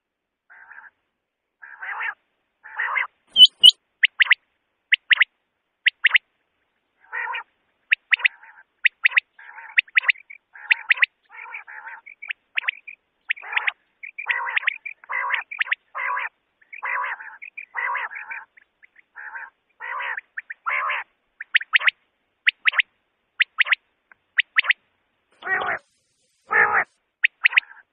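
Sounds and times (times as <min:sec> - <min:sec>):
quail calling: 0:00.5 - 0:01.0, 0:01.6 - 0:06.2, 0:07.0 - 0:24.8, 0:25.4 - 0:27.9.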